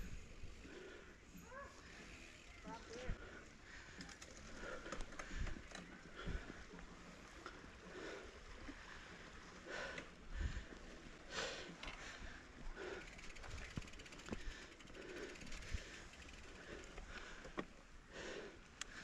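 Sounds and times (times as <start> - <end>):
bike tyres rolling on dirt: 0.0 - 18.6.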